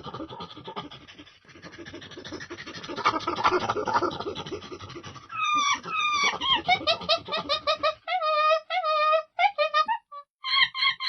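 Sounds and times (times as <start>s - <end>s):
monkey grunting and screeching: 0.0s - 11.0s.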